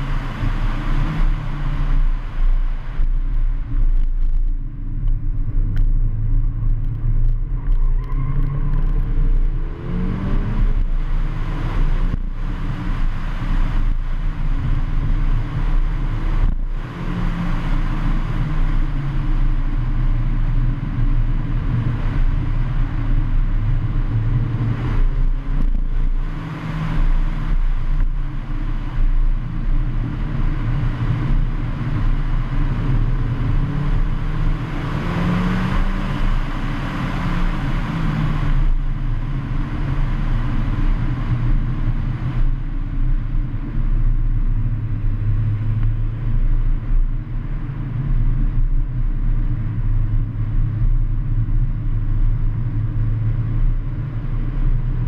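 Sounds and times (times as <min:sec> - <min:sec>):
faint car engine: 0:00.0 - 0:55.0
rumble from rough road: 0:00.0 - 0:55.0.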